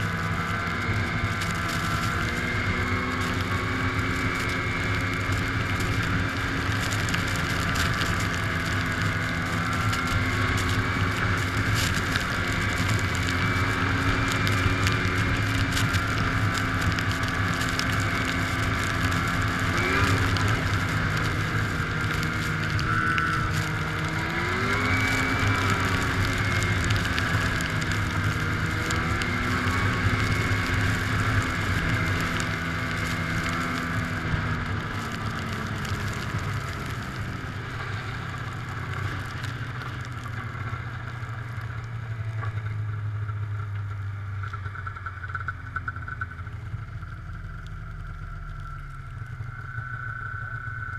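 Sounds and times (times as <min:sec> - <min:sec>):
snowmobile engine running: 0:00.0 - 0:50.9.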